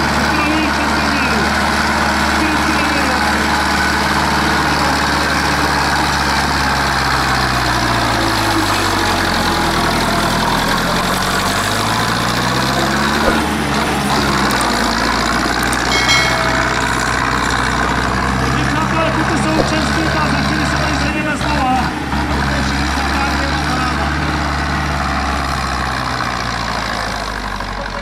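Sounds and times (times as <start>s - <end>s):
tractor diesel engine under load: 0.0s - 16.0s, 17.2s - 28.0s.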